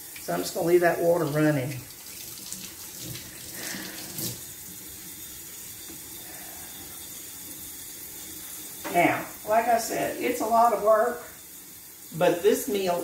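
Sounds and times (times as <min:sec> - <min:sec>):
faucet running into sink: 0:00.0 - 0:13.0.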